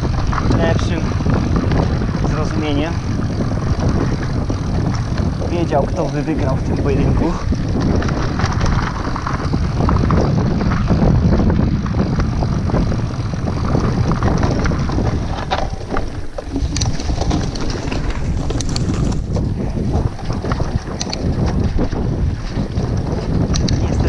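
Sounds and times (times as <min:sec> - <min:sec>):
bike clicks and rattles: 0:00.0 - 0:24.0
tyres on sandy trail: 0:00.0 - 0:24.0
wind buffeting microphone: 0:00.0 - 0:24.0.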